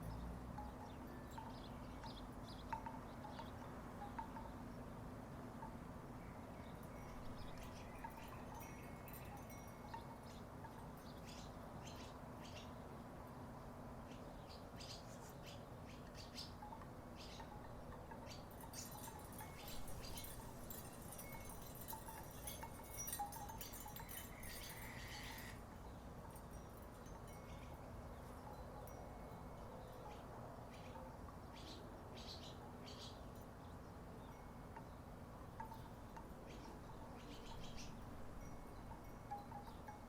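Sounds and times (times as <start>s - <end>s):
wooden wind chimes clacking: 0.0s - 11.6s, 16.0s - 31.5s, 34.2s - 40.0s.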